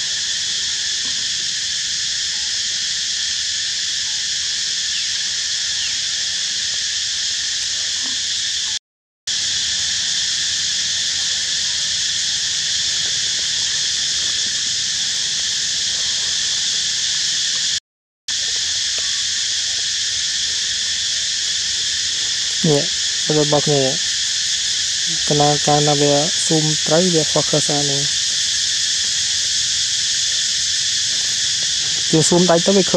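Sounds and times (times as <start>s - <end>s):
forest insect chorus hissing: 0.0s - 32.9s.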